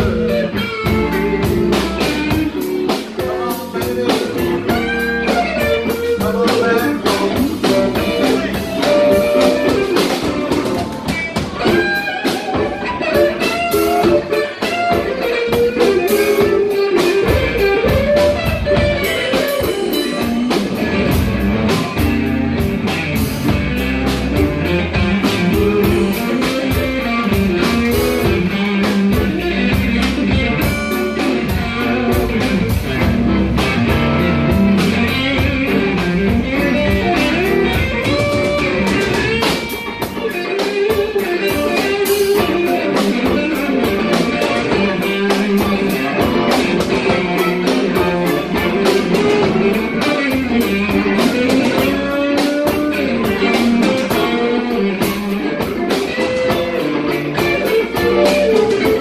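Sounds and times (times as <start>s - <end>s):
bass guitar: 0.0s - 59.0s
drum kit beats: 0.0s - 59.0s
electric guitar: 0.0s - 59.0s.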